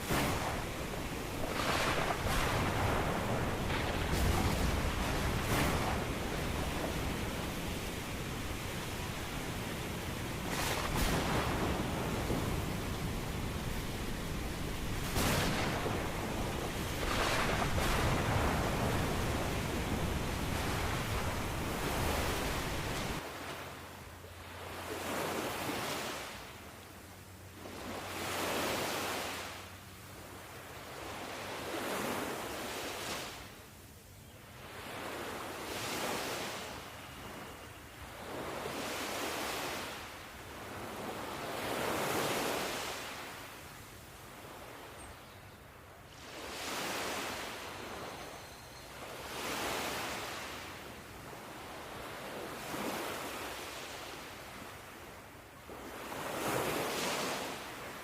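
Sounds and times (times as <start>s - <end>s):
ocean waves breaking: 0.0s - 26.6s, 27.5s - 33.5s, 34.6s - 45.0s, 45.7s - 58.0s.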